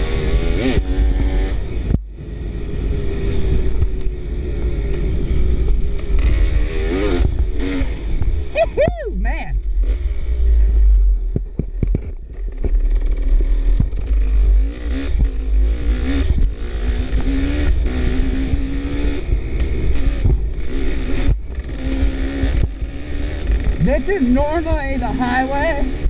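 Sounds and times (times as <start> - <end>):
dirt bike engine revving: 0.0 - 26.0
wind rumbling on microphone: 0.0 - 26.0.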